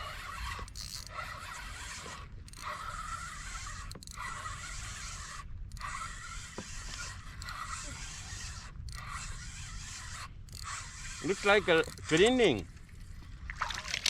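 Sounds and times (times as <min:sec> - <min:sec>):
fishing reel whirring: 0:00.0 - 0:13.3.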